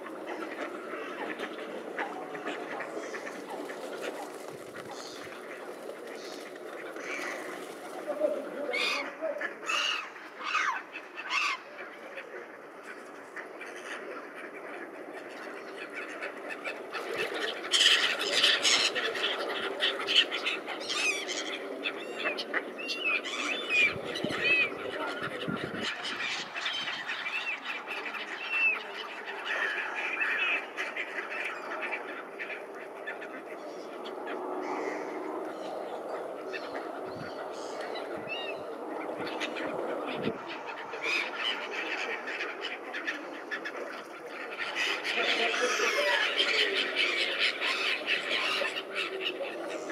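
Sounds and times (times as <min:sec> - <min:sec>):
ducks swans and gulls calling: 0:00.0 - 0:49.9.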